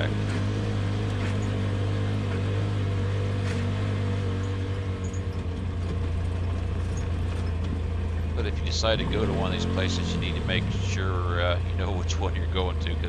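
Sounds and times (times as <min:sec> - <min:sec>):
off-road vehicle engine running: 0:00.0 - 0:13.0.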